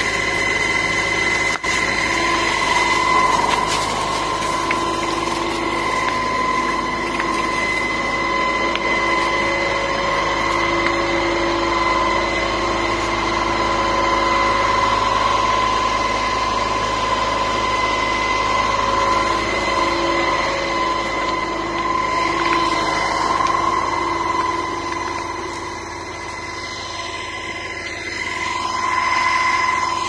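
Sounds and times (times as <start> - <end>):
constant high whine: 0.0 - 30.0
fire truck engine drone: 0.0 - 30.0.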